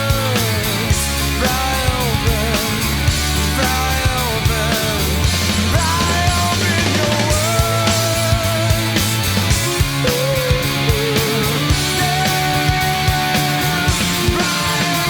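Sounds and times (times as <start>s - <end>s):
rock band playing: 0.0s - 15.0s
sliding melodic lead line: 0.0s - 15.0s.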